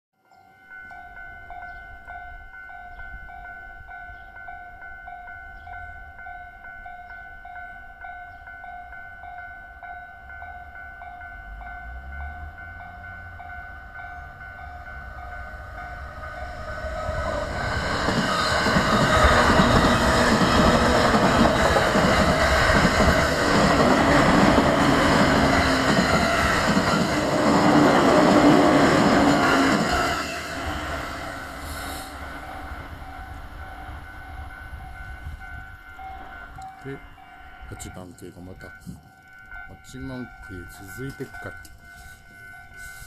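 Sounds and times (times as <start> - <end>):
level-crossing warning bell: 0.2 - 43.0
electric train passing: 0.5 - 43.0.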